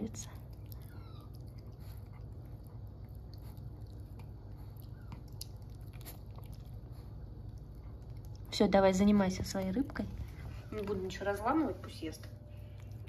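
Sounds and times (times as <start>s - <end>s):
steady low hum: 0.0s - 13.0s
dog chewing treat: 0.2s - 11.1s.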